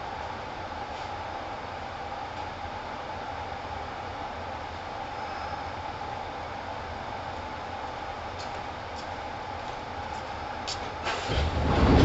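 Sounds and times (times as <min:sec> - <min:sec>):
train hum and rush: 0:00.0 - 0:12.0.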